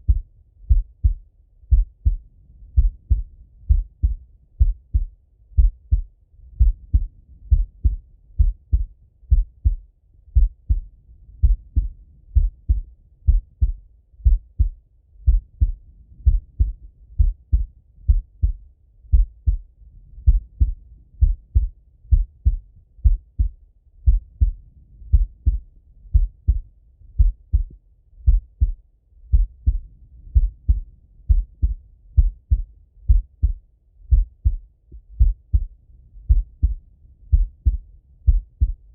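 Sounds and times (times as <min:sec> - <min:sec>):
heartbeat thumps: 0:00.0 - 0:38.9
soft muffled rumble: 0:00.0 - 0:38.9.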